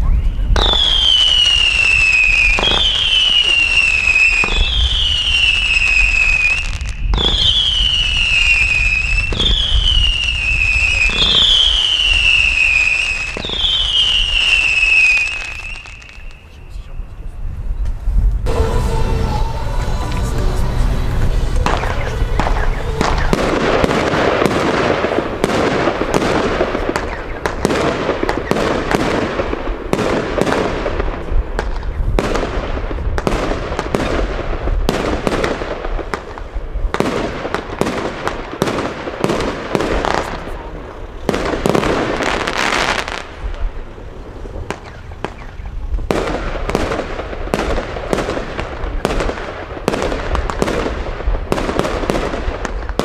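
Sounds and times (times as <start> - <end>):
fireworks launching and bursting: 0.0 - 53.0.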